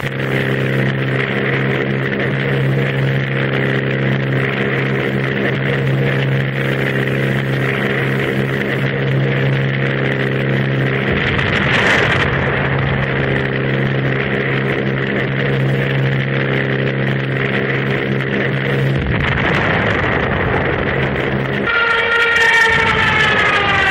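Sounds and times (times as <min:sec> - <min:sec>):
piston aircraft engine running: 0:00.0 - 0:23.9
rush of noise with deep rumble: 0:00.0 - 0:23.9.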